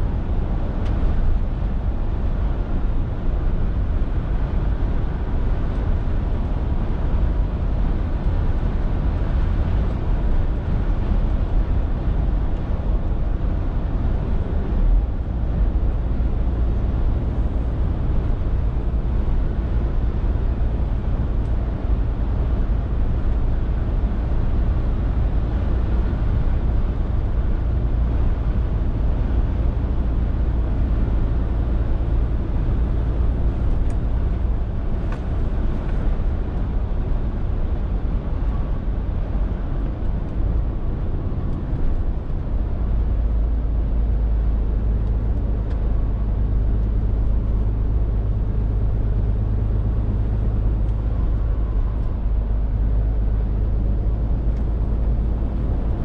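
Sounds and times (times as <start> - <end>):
lorry diesel engine drone: 0.0 - 56.0
road and tyre noise: 0.0 - 56.0.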